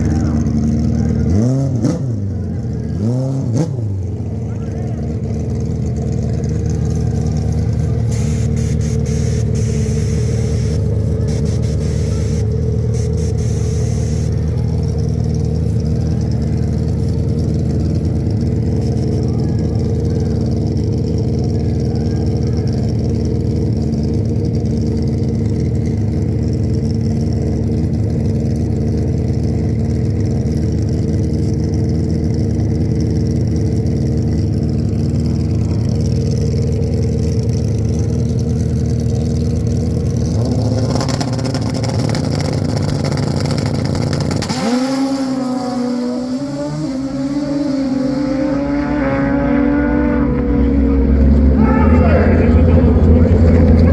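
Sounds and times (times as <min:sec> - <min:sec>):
motorcycle engine running loud: 0:00.0 - 0:53.9.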